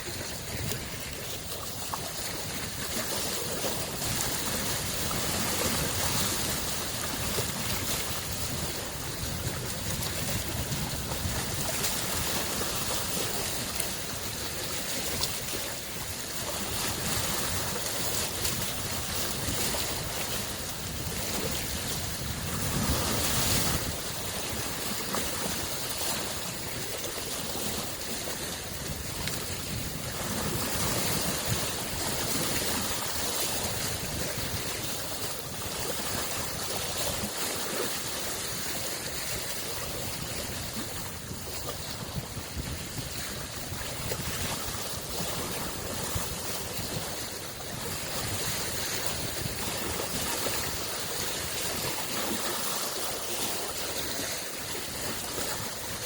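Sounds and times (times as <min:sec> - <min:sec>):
lake waves lapping at shore: 0:00.0 - 0:56.0.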